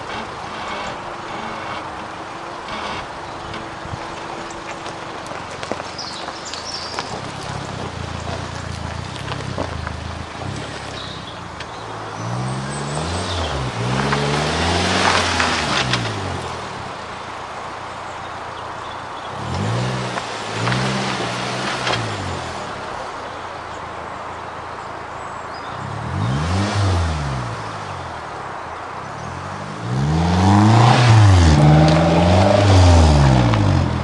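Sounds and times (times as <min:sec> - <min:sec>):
tyres scrabbling on stones: 0:00.0 - 0:23.7, 0:28.9 - 0:34.0
car engine revving: 0:00.0 - 0:34.0.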